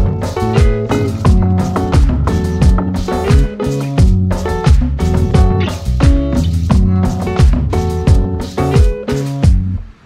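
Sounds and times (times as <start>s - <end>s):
music with punchy drum beat: 0.0s - 9.7s.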